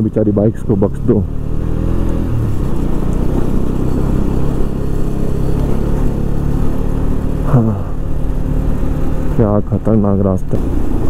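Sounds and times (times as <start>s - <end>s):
motorcycle engine under load: 0.0s - 11.0s.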